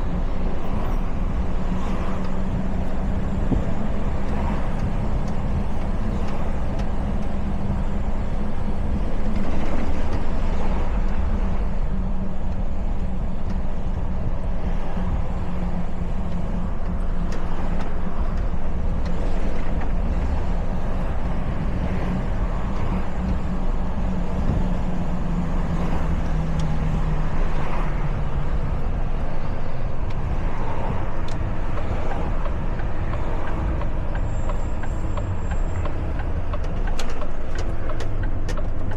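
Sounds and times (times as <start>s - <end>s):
diesel truck engine drone: 0.0s - 38.9s
tyre and road noise: 0.0s - 38.9s.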